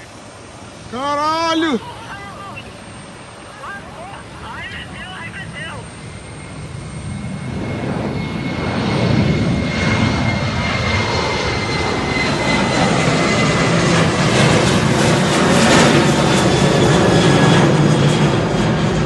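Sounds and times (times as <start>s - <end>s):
jet engines rumbling and whining: 0.0s - 19.0s.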